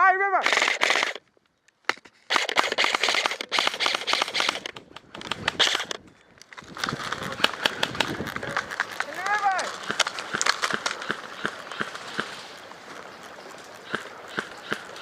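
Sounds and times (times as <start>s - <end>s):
airsoft guns firing bursts: 0.4s - 1.2s, 2.3s - 6.0s, 6.8s - 15.0s.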